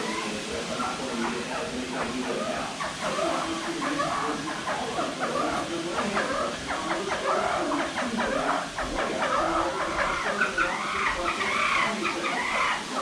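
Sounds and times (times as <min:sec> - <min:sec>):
birds chattering calls: 0:00.0 - 0:13.0.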